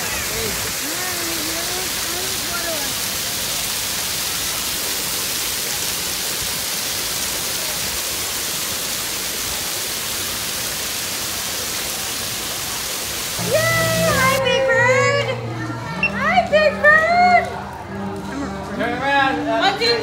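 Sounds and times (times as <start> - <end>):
fountain jets spraying water: 0.0 - 20.0.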